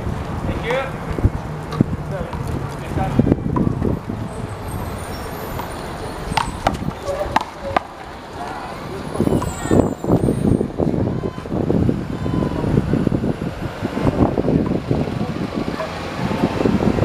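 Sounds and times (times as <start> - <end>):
steady traffic hum: 0.0 - 17.0
indistinct voices: 2.0 - 17.0.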